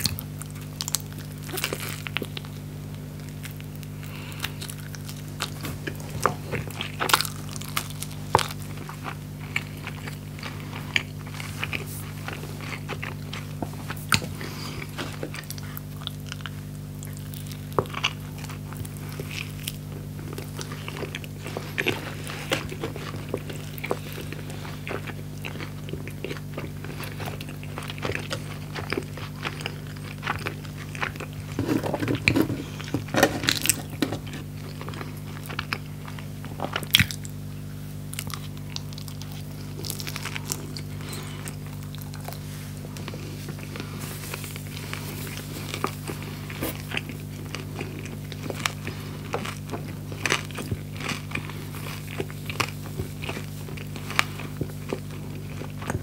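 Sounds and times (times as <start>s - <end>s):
biting and chewing food: 0.0s - 56.0s
small crunches: 0.0s - 56.0s
steady low hum: 0.0s - 56.0s.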